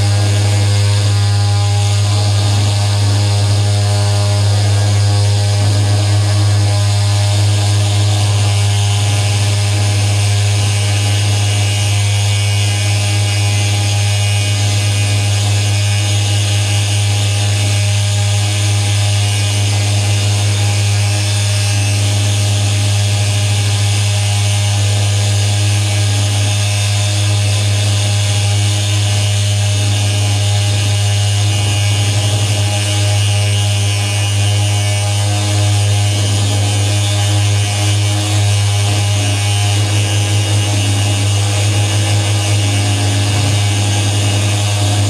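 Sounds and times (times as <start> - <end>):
electronic drone hum: 0.0 - 45.0.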